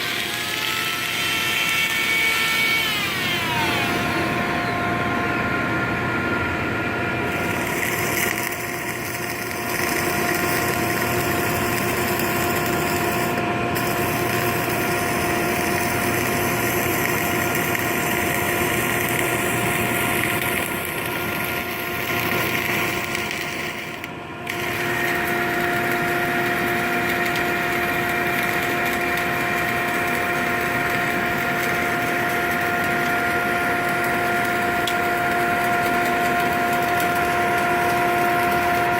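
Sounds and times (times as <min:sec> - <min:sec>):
industrial machine hum: 0:00.0 - 0:38.9.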